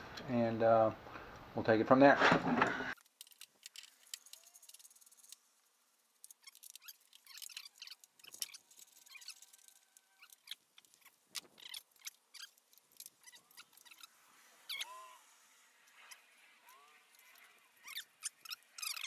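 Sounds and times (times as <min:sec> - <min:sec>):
hand tools clicking and scraping: 0:02.2 - 0:19.0.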